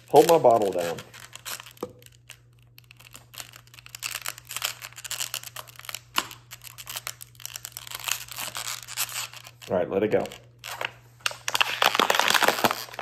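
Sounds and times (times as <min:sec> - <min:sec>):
plastic bottle crinkling: 0:00.0 - 0:13.0.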